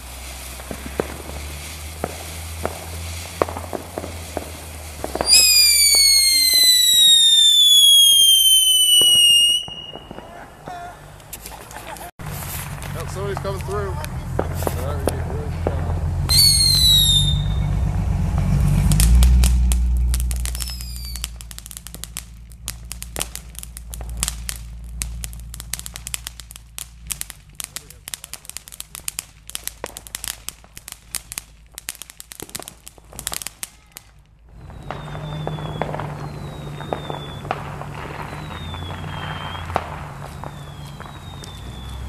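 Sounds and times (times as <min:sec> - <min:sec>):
firework falling whistle: 0:00.0 - 0:13.8, 0:16.3 - 0:27.8, 0:32.4 - 0:42.0
firework crackling pops: 0:00.0 - 0:42.0.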